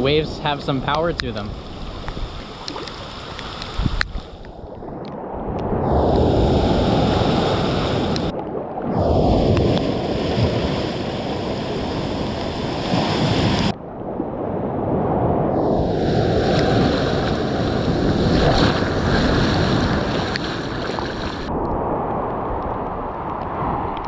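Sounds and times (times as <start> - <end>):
sea waves breaking: 0.0 - 24.0.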